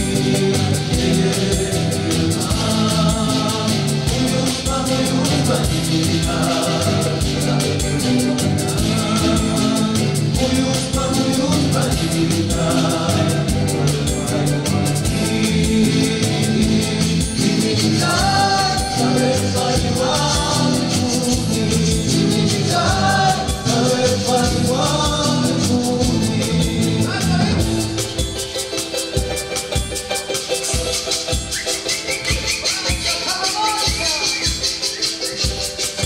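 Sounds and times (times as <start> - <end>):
voices singing together: 0.0 - 29.5
strummed acoustic guitar: 0.0 - 36.0.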